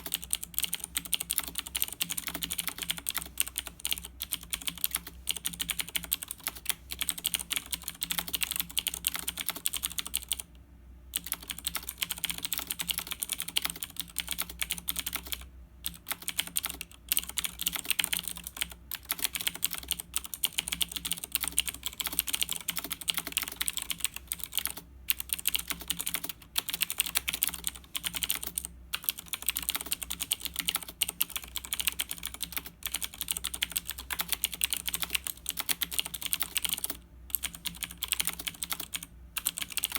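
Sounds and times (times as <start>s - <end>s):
fast mechanical keyboard typing: 0.0s - 10.5s, 11.1s - 39.9s.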